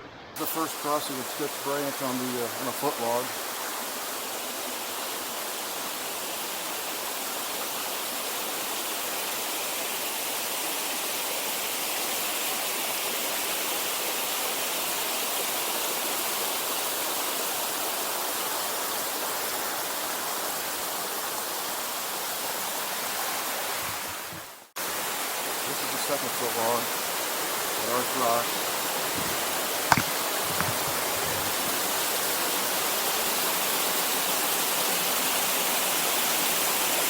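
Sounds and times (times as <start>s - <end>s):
creek rushing over rocks: 0.4s - 10.6s, 16.2s - 37.0s.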